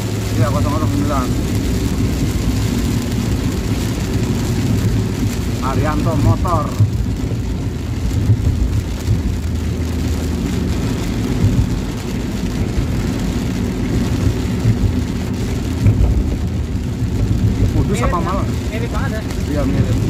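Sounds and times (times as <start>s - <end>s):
engine and road rumble: 0.0s - 20.0s
heavy rain hitting windshield: 0.0s - 20.0s.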